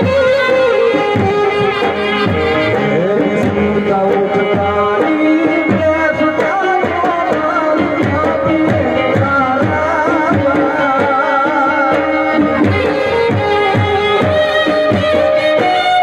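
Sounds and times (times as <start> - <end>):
hand drum rhythm: 0.0 - 16.0
harmonium chords: 0.0 - 16.0.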